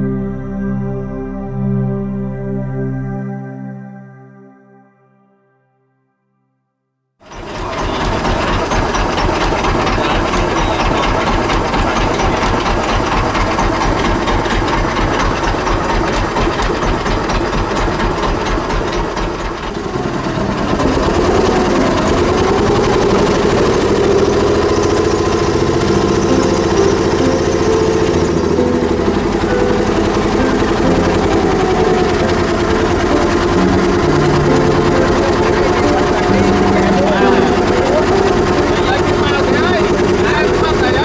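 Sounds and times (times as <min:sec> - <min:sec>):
boat engine chugging: 0:07.2 - 0:41.0.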